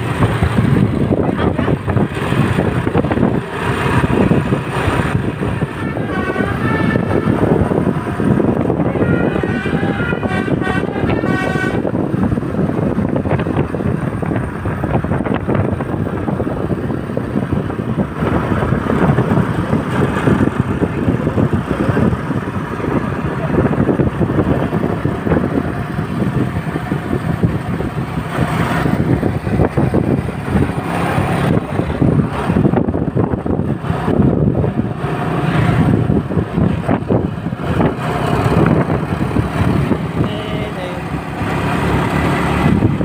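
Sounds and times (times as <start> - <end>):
heavy vehicle engines: 0.0 - 43.0
tyres on road: 0.0 - 43.0.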